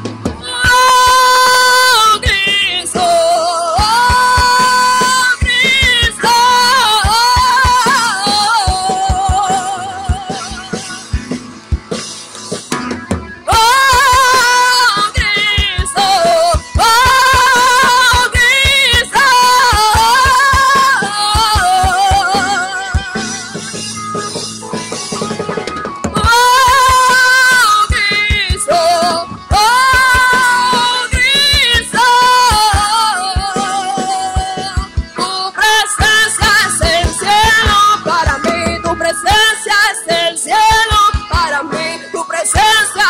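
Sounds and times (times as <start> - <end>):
live worship band playing: 0.0 - 43.0
woman singing with vibrato: 0.4 - 11.1, 13.5 - 23.6, 26.2 - 43.0.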